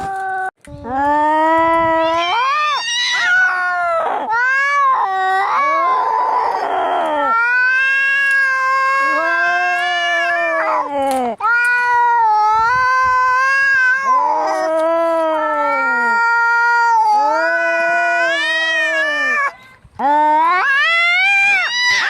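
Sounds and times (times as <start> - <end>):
cats yowling in a fight: 1.9 - 19.6, 20.4 - 22.0.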